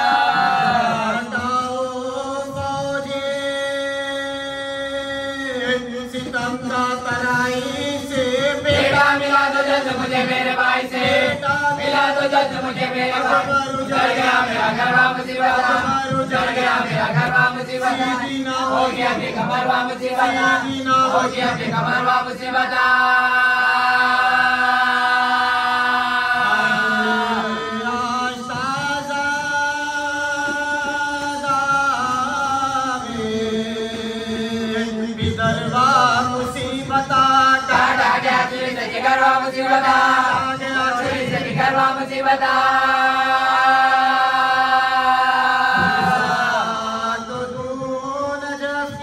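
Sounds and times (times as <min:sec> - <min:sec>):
voices chanting a lament: 0:00.0 - 0:49.0.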